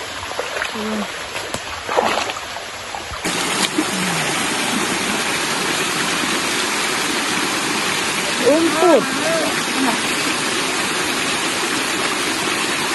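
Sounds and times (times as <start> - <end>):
stream rushing over rocks: 0.0 - 12.9.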